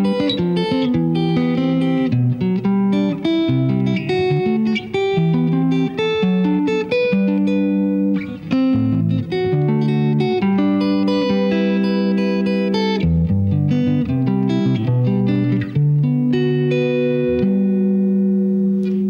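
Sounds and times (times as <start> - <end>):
electric guitar arpeggios: 0.0 - 19.0.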